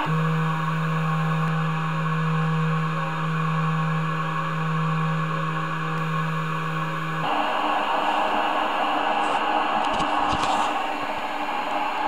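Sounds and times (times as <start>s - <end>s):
motor whine: 0.0s - 12.0s.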